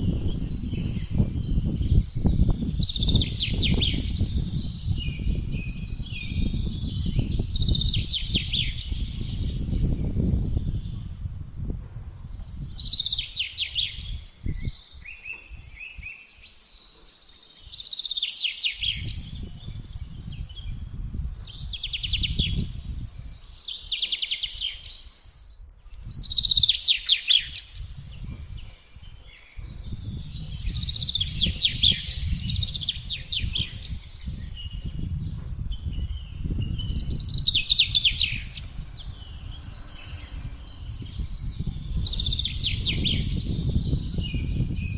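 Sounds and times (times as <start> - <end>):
gusty low wind: 0.0 - 16.7, 17.6 - 44.9
songbirds singing: 0.0 - 44.9.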